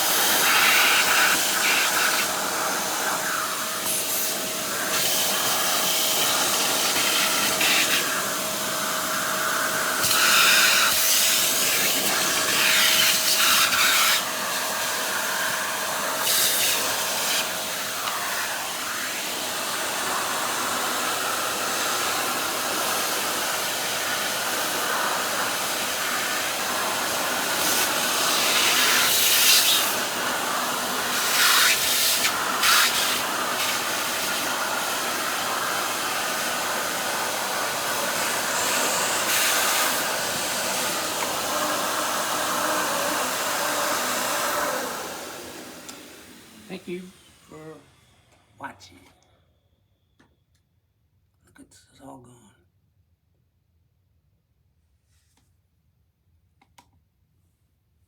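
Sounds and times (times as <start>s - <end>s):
vacuum cleaner running: 0.0s - 48.6s.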